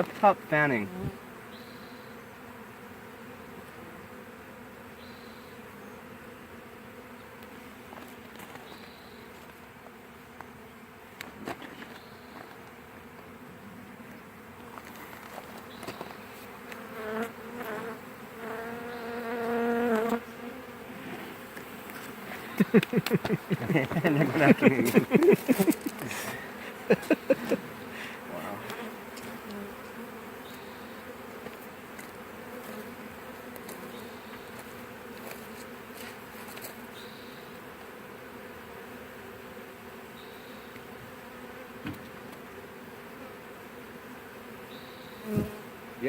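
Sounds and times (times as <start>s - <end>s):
bee swarm humming: 0.0s - 46.0s
bees buzzing close by: 0.0s - 46.0s.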